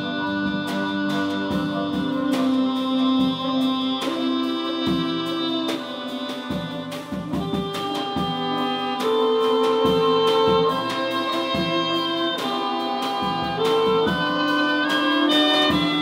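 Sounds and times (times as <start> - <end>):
drum and cymbal strikes: 0.0 - 16.0
saxophone: 0.0 - 16.0.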